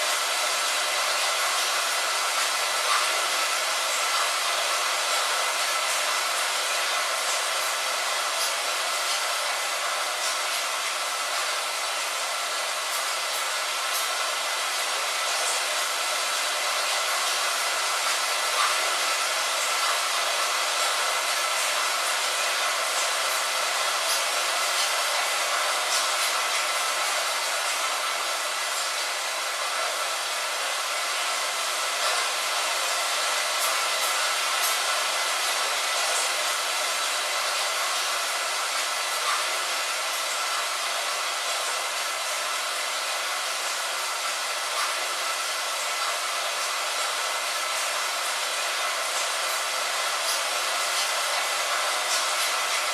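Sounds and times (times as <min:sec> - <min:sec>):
light rain on a window: 0:00.0 - 0:52.9.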